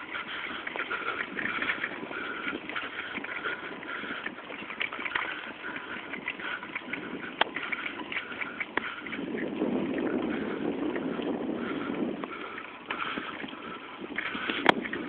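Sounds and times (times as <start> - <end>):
bicycle clicks and rattles: 0.0 - 15.0
bicycle tyres crunching on dirt: 0.0 - 15.0.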